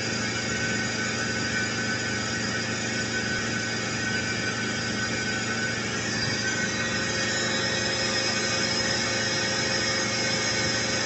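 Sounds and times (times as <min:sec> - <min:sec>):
high whining tone: 0:00.0 - 0:11.0
machinery running: 0:00.0 - 0:11.0.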